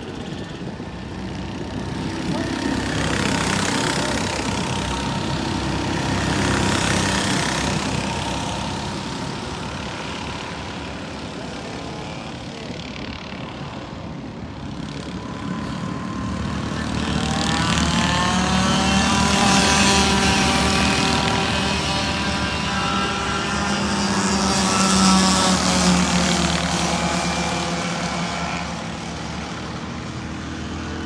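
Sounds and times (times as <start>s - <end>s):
racing kart engines: 0.0s - 31.0s.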